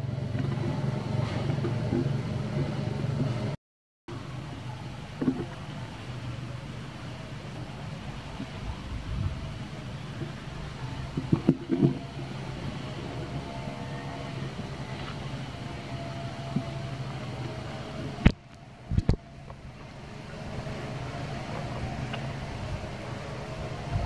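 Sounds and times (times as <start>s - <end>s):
motor humming: 4.2s - 24.0s.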